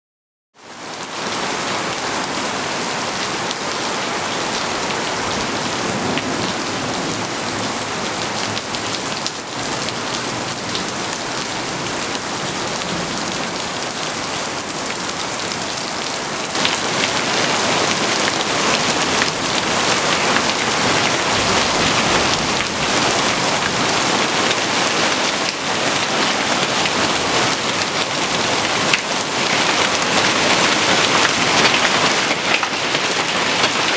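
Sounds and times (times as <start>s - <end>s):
heavy rain pouring: 0.6s - 33.9s.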